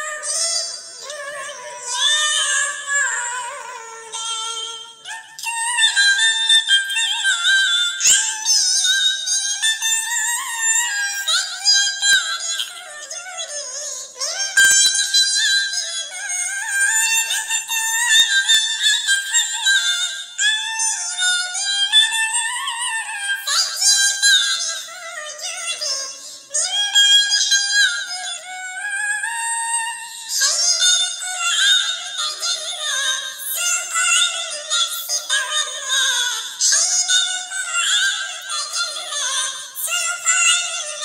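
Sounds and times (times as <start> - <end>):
high-pitched synthetic voice singing: 0.0 - 41.0.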